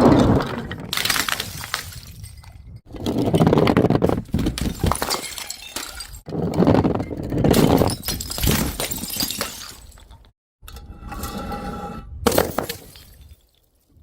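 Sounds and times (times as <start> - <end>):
glass bottles clattering and breaking: 0.4 - 10.3, 12.3 - 13.8.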